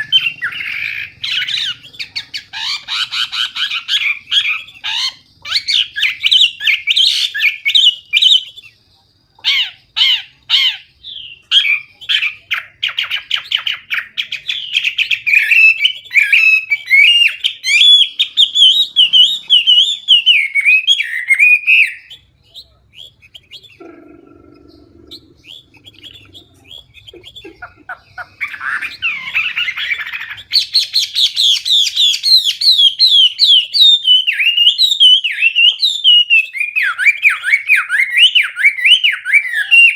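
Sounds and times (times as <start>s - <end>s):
bird singing whistled phrases: 0.0s - 24.0s, 24.6s - 27.6s, 28.2s - 39.9s.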